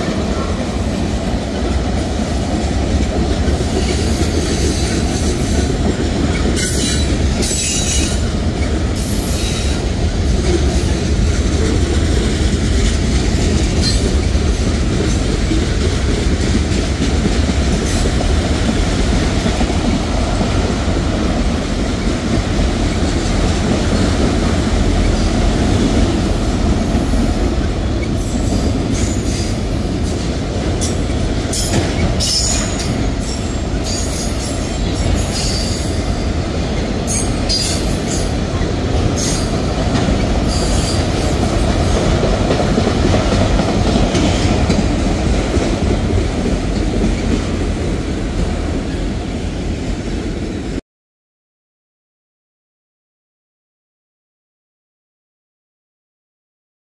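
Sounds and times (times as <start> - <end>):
freight cars rumbling on rails: 0.0 - 50.8.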